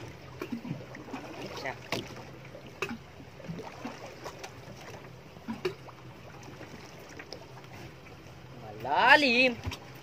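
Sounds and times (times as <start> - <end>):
water slapping boat hull: 0.0 - 10.0.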